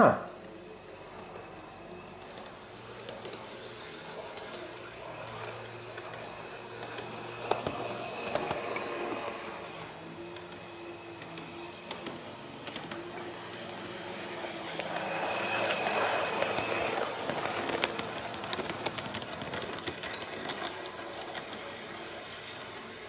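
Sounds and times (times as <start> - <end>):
model train motor hum: 0.2 - 23.0.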